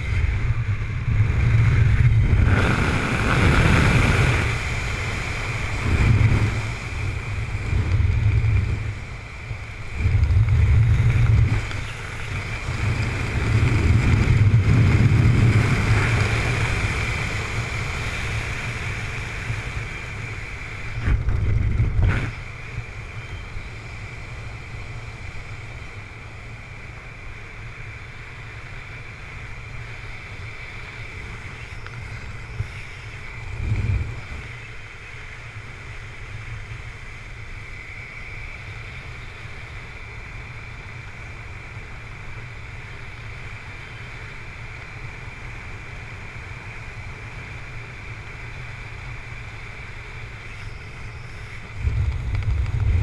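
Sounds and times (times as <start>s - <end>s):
low buffeting gusts: 0.0s - 53.0s
wind rushing over microphone: 0.0s - 53.0s.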